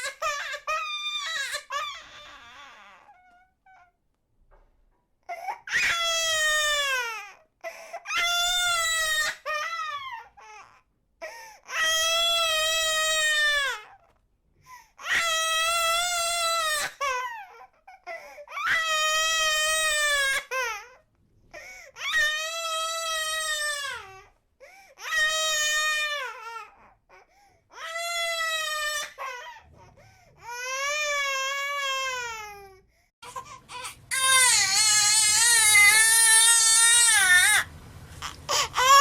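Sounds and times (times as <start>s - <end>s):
infant crying: 0.0s - 4.0s, 5.2s - 14.1s, 15.0s - 21.0s, 21.6s - 24.3s, 25.0s - 39.0s.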